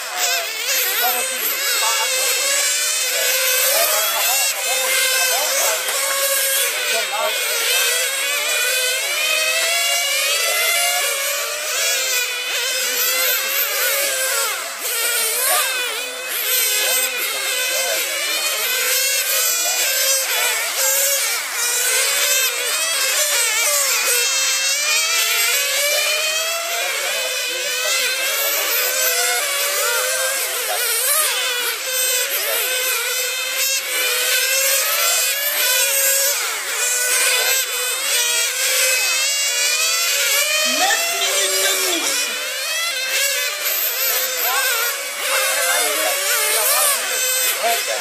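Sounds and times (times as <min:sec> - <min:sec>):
model racing car engines revving: 0:00.0 - 0:48.0.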